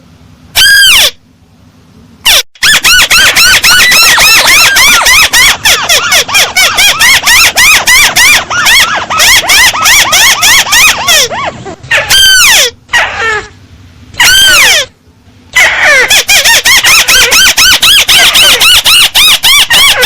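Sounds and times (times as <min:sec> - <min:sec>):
crake calling with squealing notes: 0:00.6 - 0:01.2, 0:02.3 - 0:13.6, 0:14.2 - 0:20.0.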